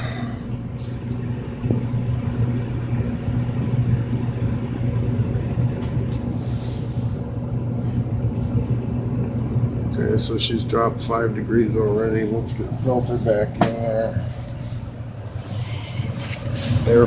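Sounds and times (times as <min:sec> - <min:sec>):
furnace hum and rumble: 0:00.0 - 0:17.0.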